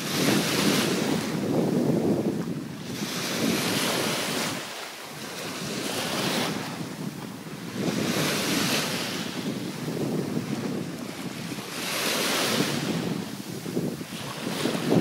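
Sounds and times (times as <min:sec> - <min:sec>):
surf washing over sand: 0:00.0 - 0:15.0
wind rumbling on microphone: 0:00.0 - 0:15.0.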